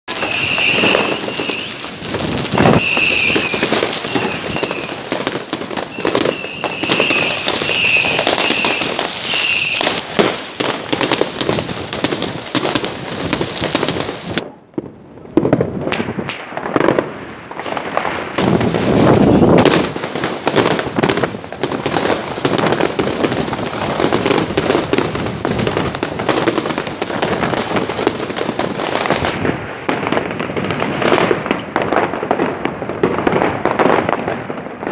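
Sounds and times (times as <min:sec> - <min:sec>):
fireworks crackling bangs: 0:00.0 - 0:34.9.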